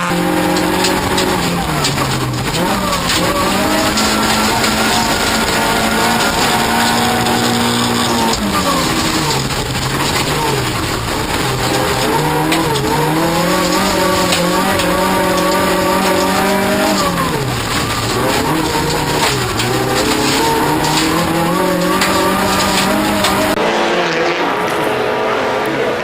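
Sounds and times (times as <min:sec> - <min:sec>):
racing car engine at high revs: 0:00.0 - 0:26.0.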